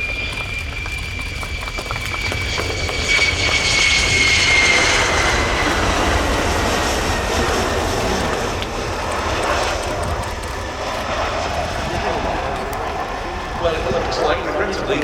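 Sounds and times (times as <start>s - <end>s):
jet engines roaring with whine: 0.0s - 15.0s.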